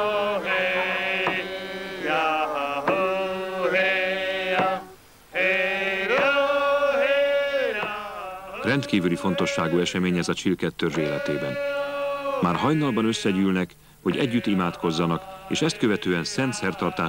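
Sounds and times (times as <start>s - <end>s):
person chanting: 0.0s - 17.0s.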